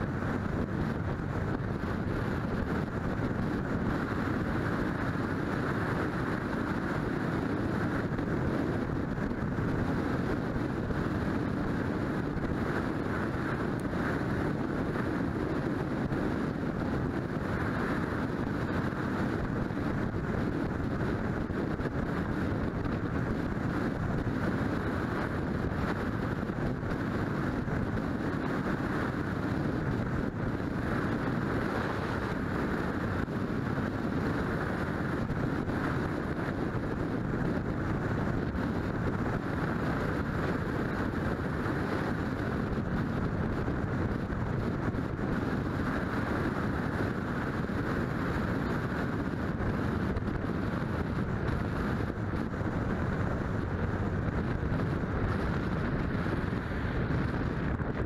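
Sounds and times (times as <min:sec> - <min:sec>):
car road noise: 0:00.0 - 0:58.0
wind rush: 0:00.0 - 0:58.0.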